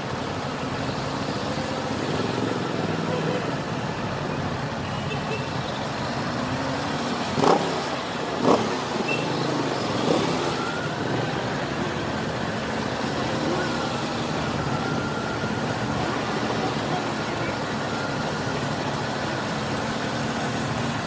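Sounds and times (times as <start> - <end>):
road noise rushing: 0.0 - 21.0.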